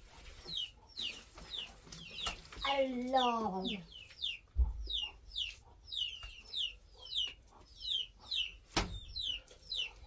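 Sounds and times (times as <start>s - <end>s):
chick peeping: 0.0s - 10.0s.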